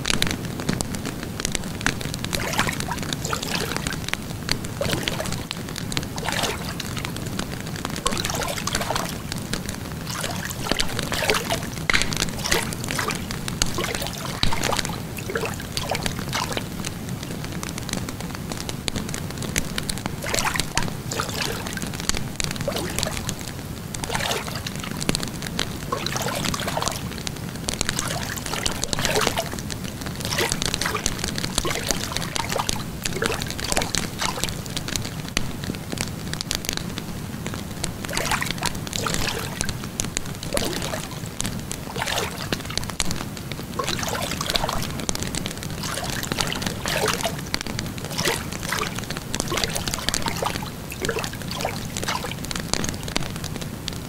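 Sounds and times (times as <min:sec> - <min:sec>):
wood fire crackling and popping: 0:00.0 - 0:54.0
water lapping: 0:01.5 - 0:18.0, 0:18.6 - 0:35.5, 0:37.5 - 0:53.6.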